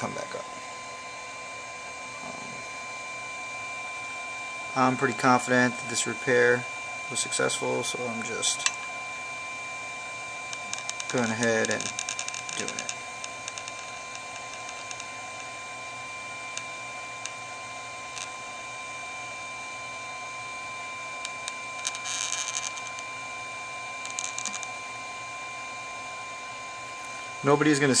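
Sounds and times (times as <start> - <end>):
high-pitched whine: 0.0 - 28.0.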